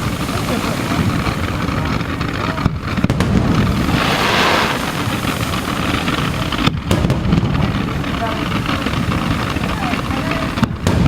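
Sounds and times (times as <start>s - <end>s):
crackling firework burst: 0.0s - 11.0s
fireworks bursts rumbling: 0.0s - 11.0s.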